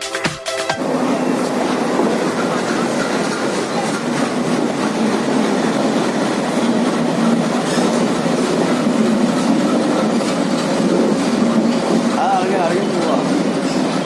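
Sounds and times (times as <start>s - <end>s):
train wheels clattering: 0.1s - 14.0s.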